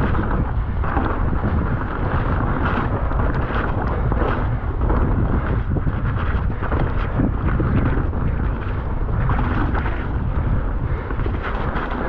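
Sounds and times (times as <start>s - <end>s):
bike rattles and knocks: 0.0s - 12.0s
mountain bike rolling on dirt: 0.0s - 12.0s
wind buffeting microphone: 0.0s - 12.0s.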